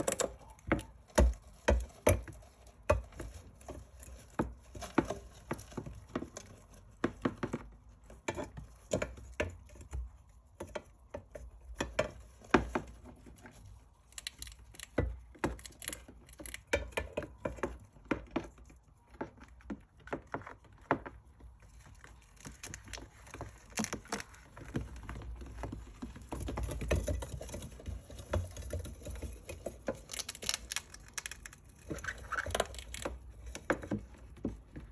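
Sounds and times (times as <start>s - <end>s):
hamsters scratching and clicking: 0.0s - 34.9s.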